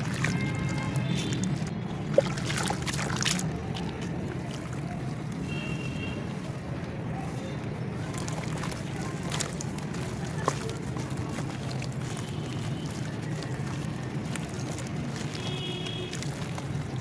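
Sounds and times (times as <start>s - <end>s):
hands splashing water in a tub: 0.0s - 7.0s, 7.6s - 17.0s.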